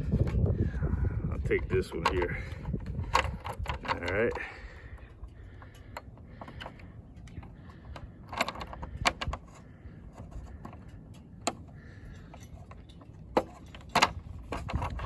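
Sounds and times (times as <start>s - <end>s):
small metal parts clinking: 0.0s - 15.0s.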